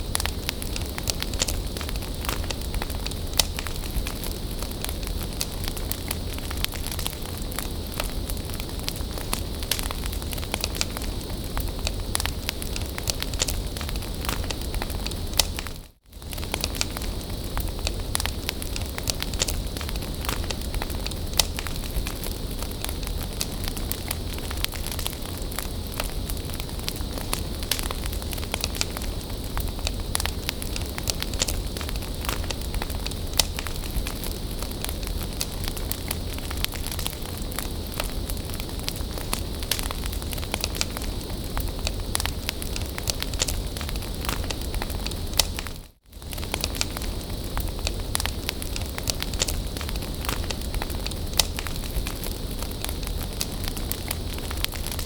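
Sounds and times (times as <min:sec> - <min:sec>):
bonfire crackling and hissing: 0:00.0 - 0:55.0.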